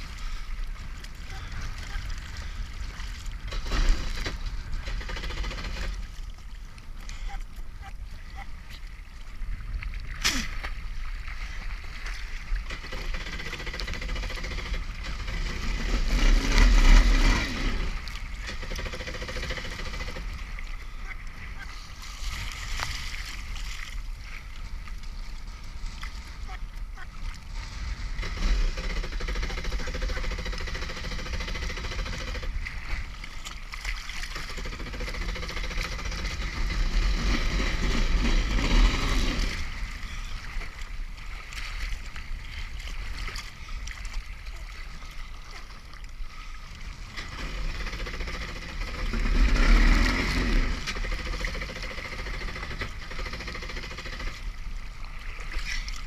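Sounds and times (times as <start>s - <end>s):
jet ski engine running: 0.0s - 8.7s, 10.6s - 45.5s, 46.1s - 56.0s
water splashing against hull: 0.0s - 56.0s.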